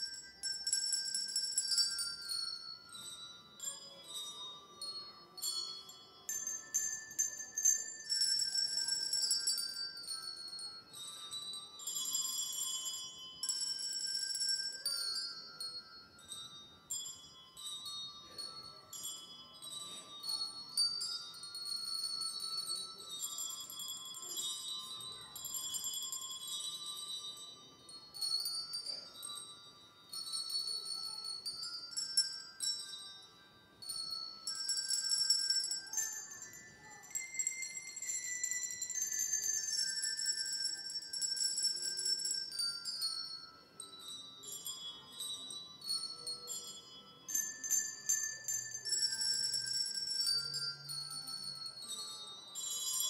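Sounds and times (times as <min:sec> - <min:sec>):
handbells playing a melody: 0:00.0 - 0:53.0.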